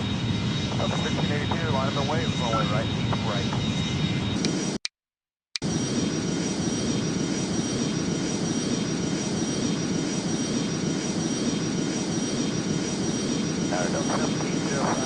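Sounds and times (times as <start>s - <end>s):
high steady whine: 0.0s - 4.8s, 5.6s - 15.0s
jet airliner rumble: 0.0s - 4.8s, 5.6s - 15.0s.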